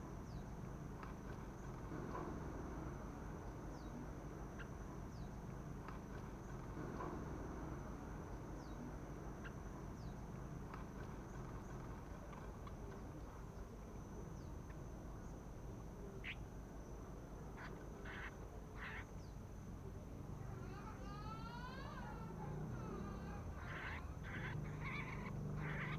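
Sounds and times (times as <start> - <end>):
low background rumble: 0.1 - 25.9.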